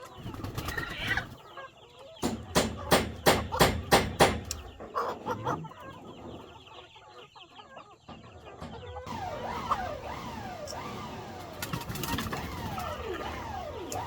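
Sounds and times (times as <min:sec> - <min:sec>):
chickens clucking and calling: 0:00.0 - 0:14.0.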